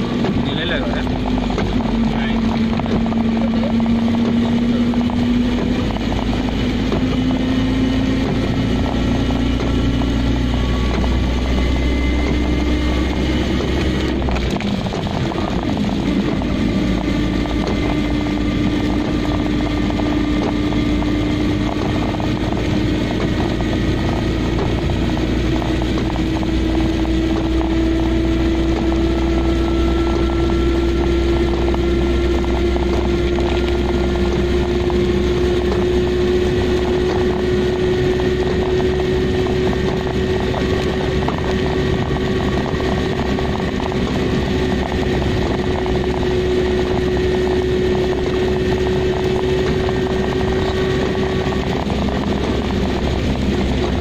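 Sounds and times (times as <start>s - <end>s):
car engine hum: 0.0s - 54.0s.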